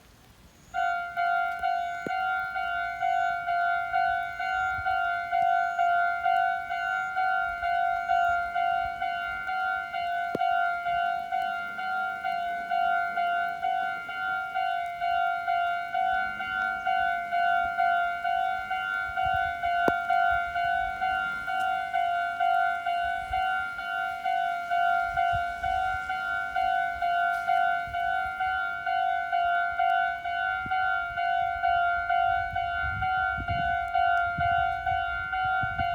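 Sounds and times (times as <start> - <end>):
railroad crossing bell ringing: 0.7 - 35.9.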